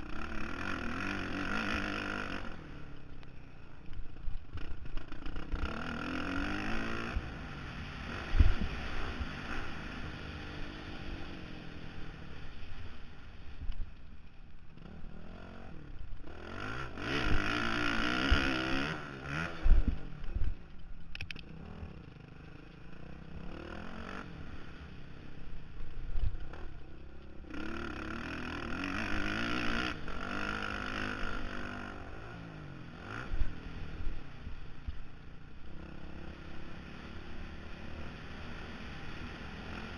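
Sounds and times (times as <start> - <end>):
dirt bike engine revving: 0.0 - 3.1, 4.4 - 13.6, 14.7 - 20.6, 21.4 - 39.9.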